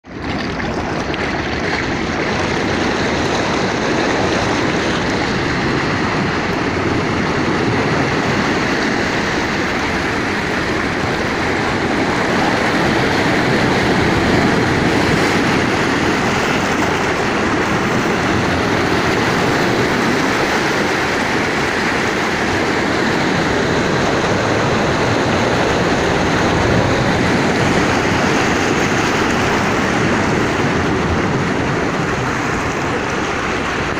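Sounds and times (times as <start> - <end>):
sea surf washing ashore: 0.0 - 33.9.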